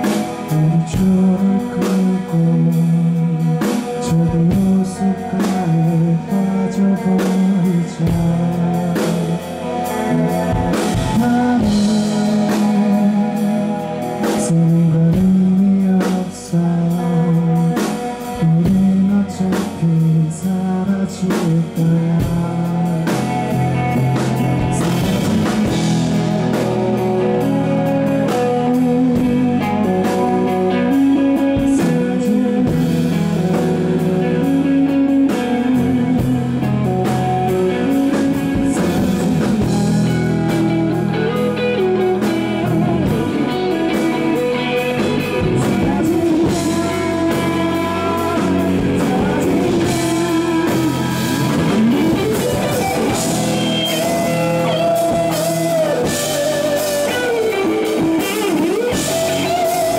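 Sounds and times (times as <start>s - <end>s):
electric guitar bending notes: 0.0s - 59.9s
rock band playing live: 0.0s - 59.9s.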